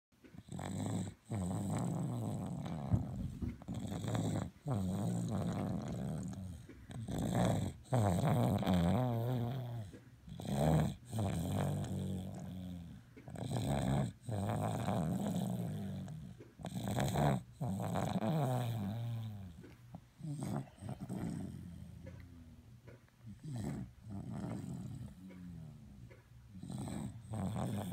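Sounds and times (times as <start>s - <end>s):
heavy rough snoring: 0.4s - 19.6s, 20.2s - 22.6s, 23.3s - 27.9s.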